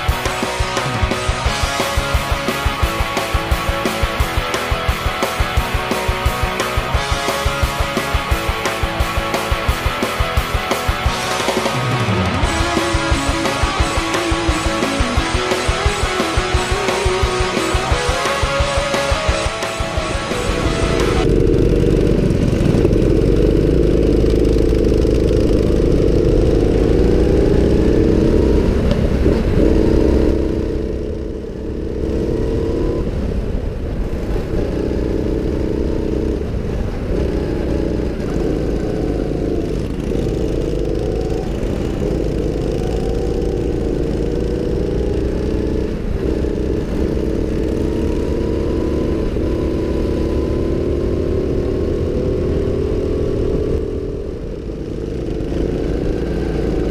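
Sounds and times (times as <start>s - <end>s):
go-kart engine running hard: 0.0s - 56.9s.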